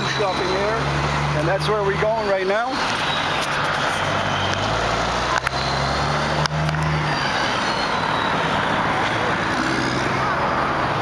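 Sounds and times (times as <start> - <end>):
broad rushing noise: 0.0 - 11.0
truck engines idling: 0.0 - 11.0.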